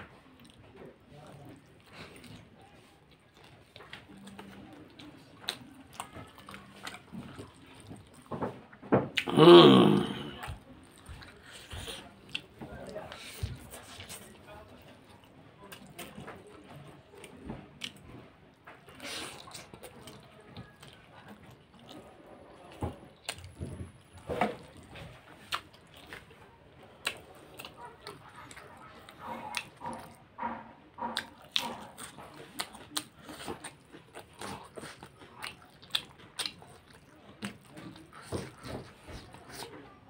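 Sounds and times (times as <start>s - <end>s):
chewing food with mouth smacks: 0.0s - 40.0s.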